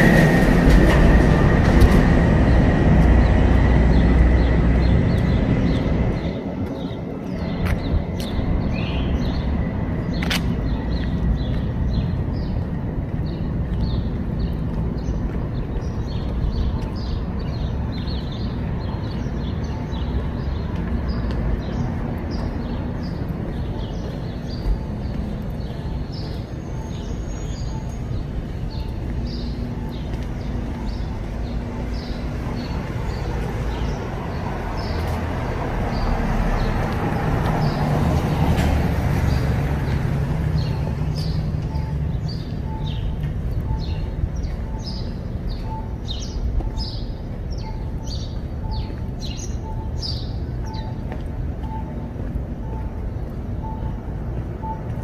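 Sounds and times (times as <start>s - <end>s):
vehicle passing: 0.0s - 50.6s
birds chirping: 0.0s - 55.0s
traffic rumble: 0.0s - 55.0s.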